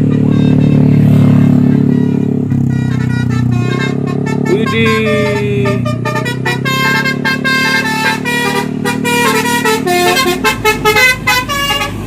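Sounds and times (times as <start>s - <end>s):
bus engine running: 0.0s - 12.0s
multi-tone musical bus horn: 0.0s - 12.0s.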